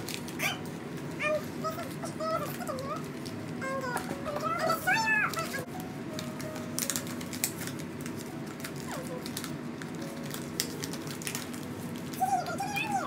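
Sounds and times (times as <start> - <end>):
paper wrapping crinkling: 0.0 - 13.0.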